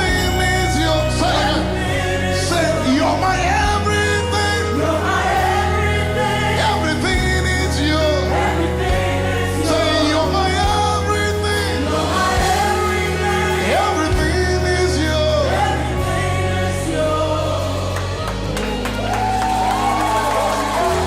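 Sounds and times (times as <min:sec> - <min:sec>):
gospel voices singing: 0:00.0 - 0:21.0.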